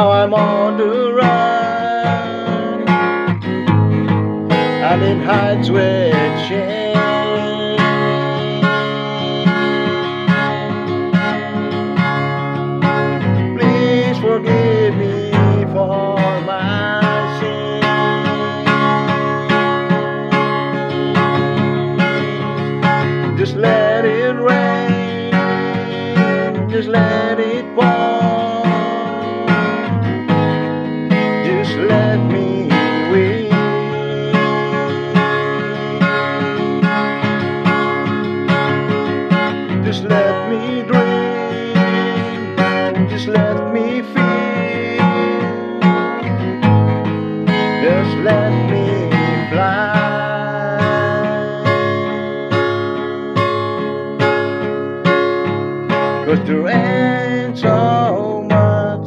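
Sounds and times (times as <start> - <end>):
acoustic guitar playing: 0.0 - 59.0
sliding melodic lead line: 0.0 - 59.0.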